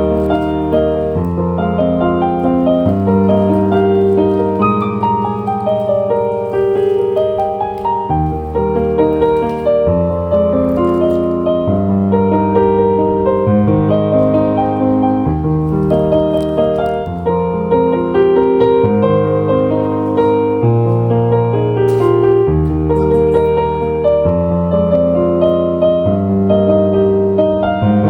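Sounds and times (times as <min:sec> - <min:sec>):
slow gentle piano music: 0:00.0 - 0:28.0.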